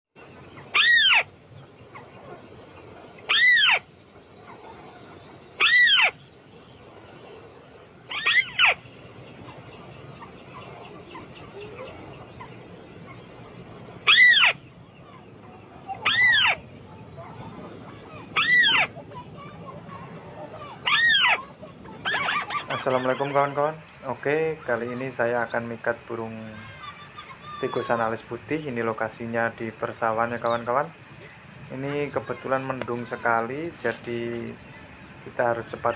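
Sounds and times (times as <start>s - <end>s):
crake calling: 0.2s - 35.9s.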